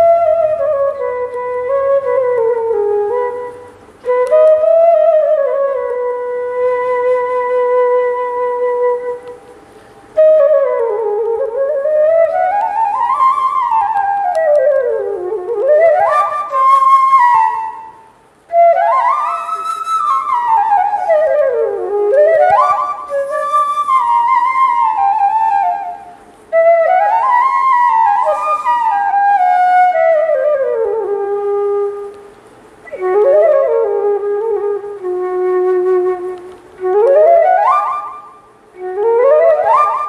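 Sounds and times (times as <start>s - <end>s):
bamboo flute playing a sad melody: 0.0s - 40.0s.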